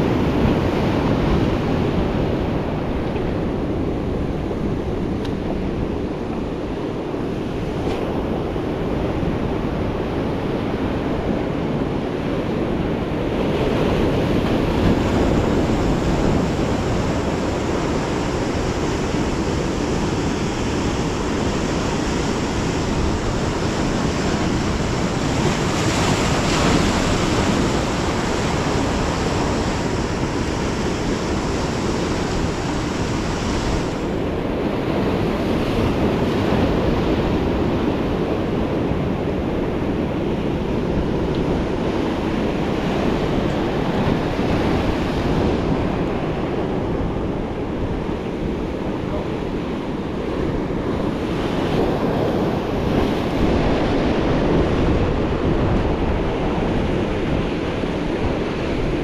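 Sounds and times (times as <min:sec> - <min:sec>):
ocean surf breaking over rocks: 0:00.0 - 0:59.0
wind on microphone: 0:00.0 - 0:59.0.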